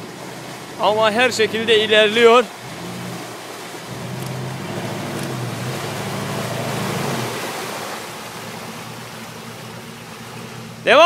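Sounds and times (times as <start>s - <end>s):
engine pulling under load: 0.0s - 11.0s
tyres churning mud and water: 0.0s - 11.0s.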